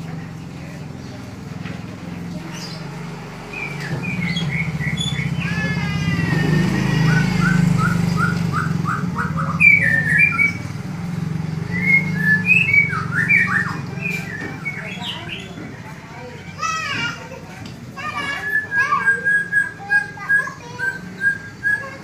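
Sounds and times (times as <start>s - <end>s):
songbird singing: 0.0s - 15.9s, 18.0s - 22.0s.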